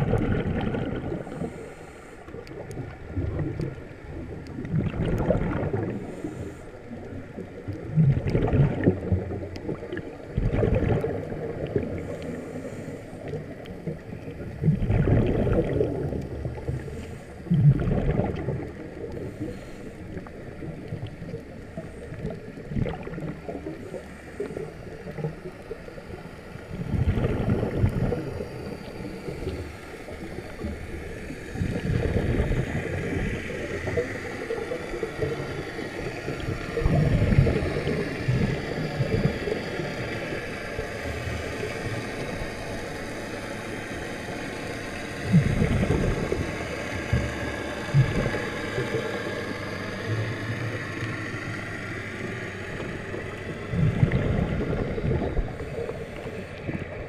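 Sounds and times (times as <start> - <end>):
faint steady hum: 0.0 - 57.0
underwater bubbles gurgling: 0.0 - 57.0.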